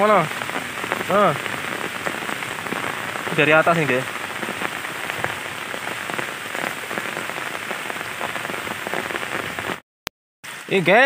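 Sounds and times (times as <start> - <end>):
heavy rain on wet grass: 0.0 - 9.8, 10.5 - 11.0.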